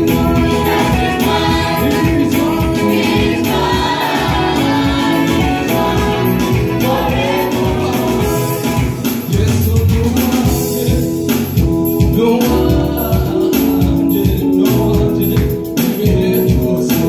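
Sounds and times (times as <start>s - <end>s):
electric keyboard: 0.0s - 17.0s
group of singers: 0.0s - 17.0s
steady beat: 0.0s - 17.0s.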